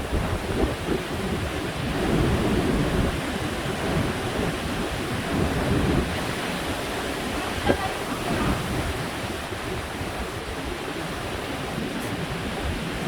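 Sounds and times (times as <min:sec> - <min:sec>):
ocean waves crashing: 0:00.0 - 0:13.0
wind rumbling on microphone: 0:00.0 - 0:13.0.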